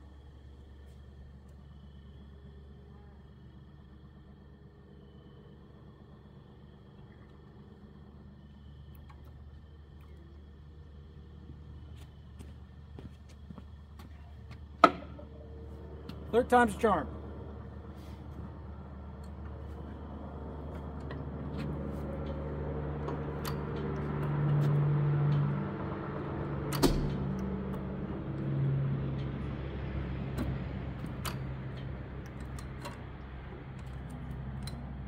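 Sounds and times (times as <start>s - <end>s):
engine flywheels turning with low hum: 0.0s - 35.0s.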